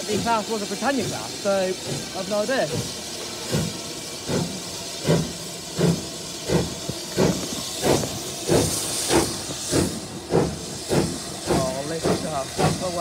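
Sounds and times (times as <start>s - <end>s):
steam hissing: 0.0s - 13.0s
steam locomotive chuffing: 0.0s - 13.0s.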